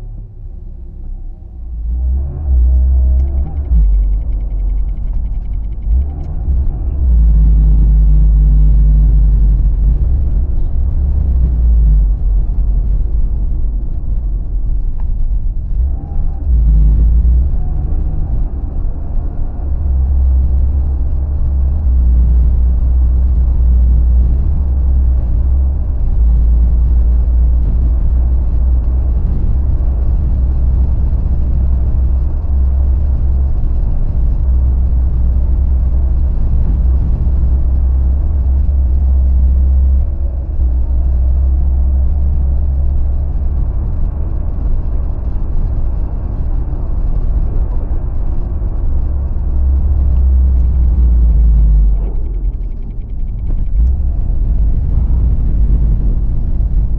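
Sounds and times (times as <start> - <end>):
car driving on road: 0.0 - 56.9.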